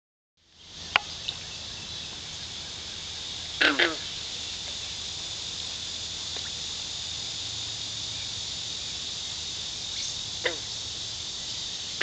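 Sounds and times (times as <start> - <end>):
insect chorus trilling: 0.4 - 12.0.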